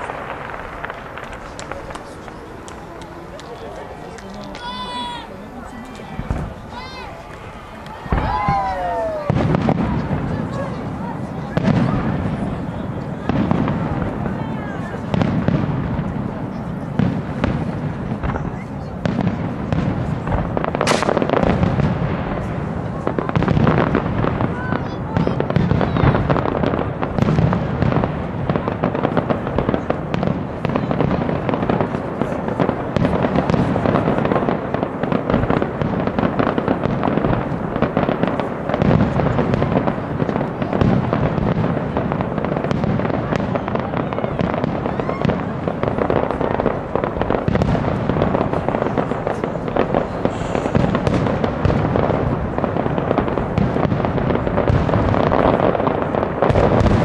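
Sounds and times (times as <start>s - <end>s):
firework shells booming: 0.0s - 57.0s
fireworks crackling: 0.0s - 57.0s.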